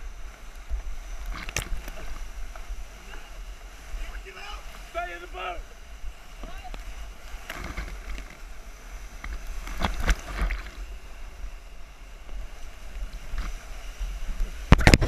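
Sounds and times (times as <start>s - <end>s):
deep rumble of water on microphone: 0.0s - 15.0s
whitewater rapids churning: 0.0s - 15.0s.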